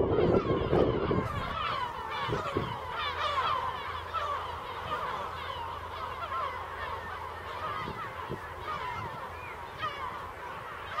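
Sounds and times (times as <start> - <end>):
flock of gulls calling: 0.0 - 11.0.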